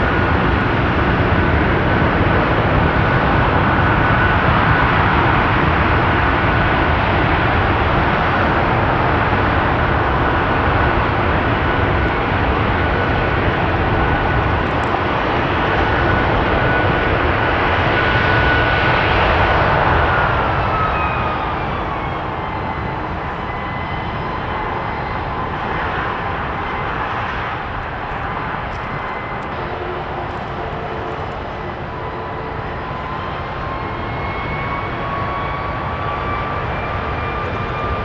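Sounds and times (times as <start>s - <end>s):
jet engine running at high power: 0.0s - 38.0s.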